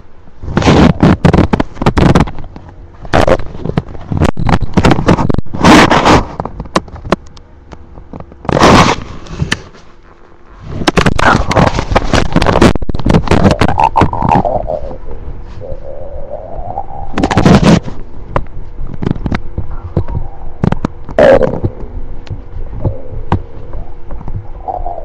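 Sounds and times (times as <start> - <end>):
stomach gurgling and rumbling: 0.0 - 7.2, 8.0 - 9.8, 10.4 - 25.0.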